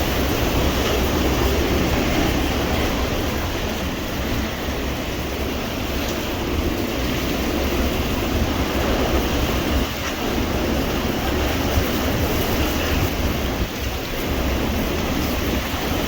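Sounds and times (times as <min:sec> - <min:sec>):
hurricane wind rushing: 0:00.0 - 0:16.0
wind buffeting microphone: 0:00.0 - 0:16.0.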